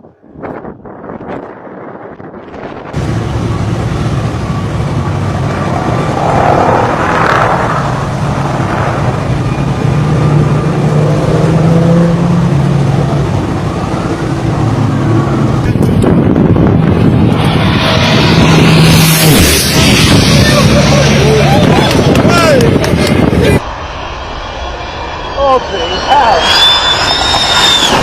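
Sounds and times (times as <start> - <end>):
aircraft engine running: 0.0 - 28.0
heavy wind rush: 0.0 - 28.0.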